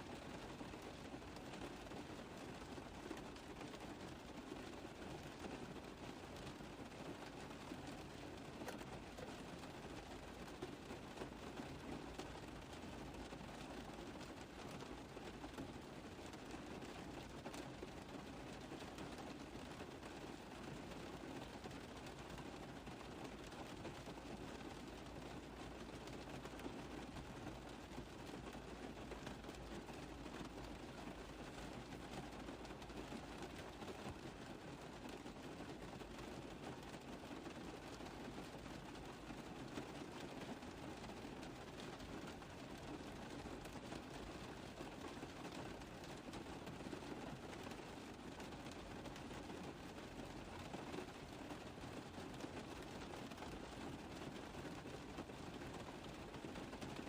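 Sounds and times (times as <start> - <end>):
rain on a car roof: 0.0 - 57.0.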